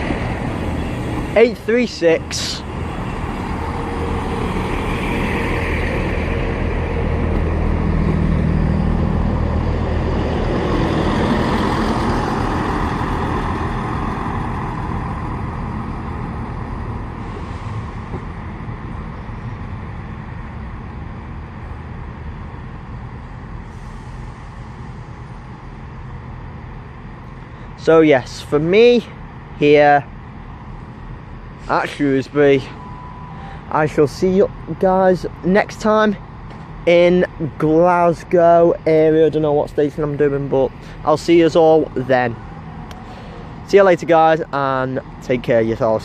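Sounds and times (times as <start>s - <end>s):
diesel train engines humming: 0.0s - 46.0s.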